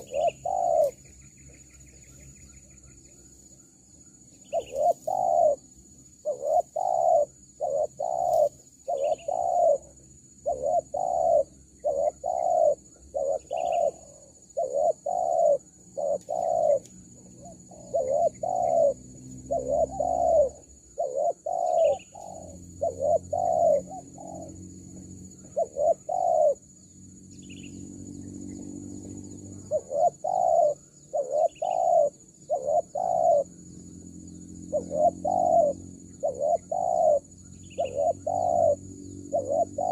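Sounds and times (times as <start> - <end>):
doves cooing: 0.0 - 3.5, 4.2 - 26.8, 27.6 - 39.9.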